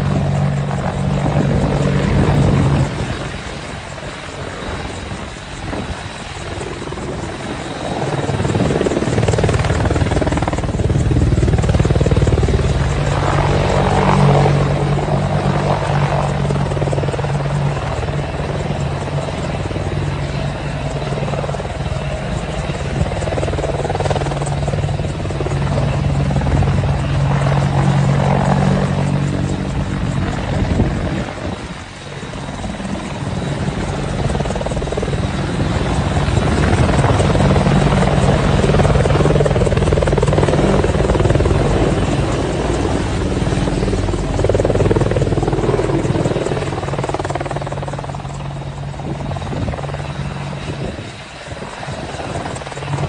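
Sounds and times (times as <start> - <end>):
helicopter rotor: 0.0 - 53.0.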